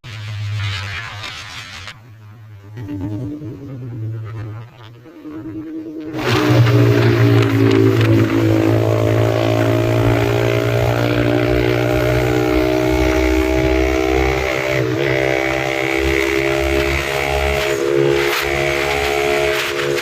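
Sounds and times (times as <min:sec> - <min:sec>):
motorcycle engine cruising: 0:02.6 - 0:20.0.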